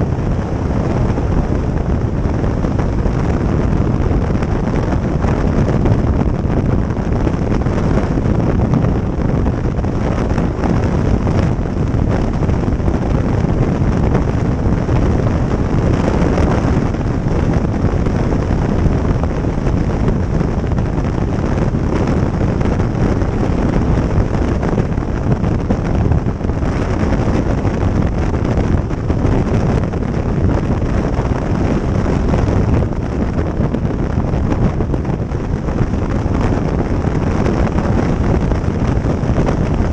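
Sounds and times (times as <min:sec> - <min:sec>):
motorcycle and road noise: 0:00.0 - 0:39.9
wind rushing over microphone: 0:00.0 - 0:39.9.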